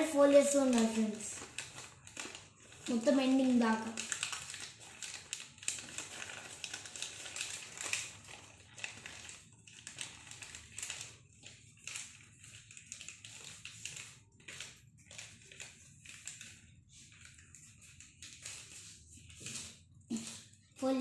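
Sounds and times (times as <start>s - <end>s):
paper rustling and crinkling: 0.0s - 21.0s.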